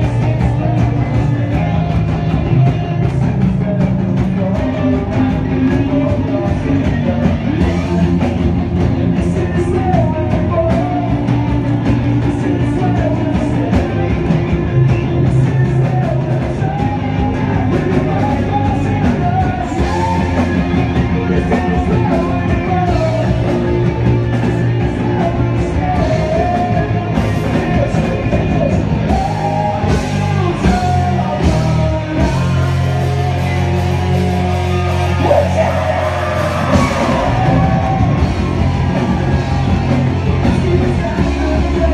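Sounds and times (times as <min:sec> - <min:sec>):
man singing into a microphone: 0:00.0 - 0:38.0, 0:40.2 - 0:41.9
drum kit with cymbals: 0:00.0 - 0:41.9
electric bass: 0:00.0 - 0:41.9
electric guitar: 0:00.0 - 0:41.9.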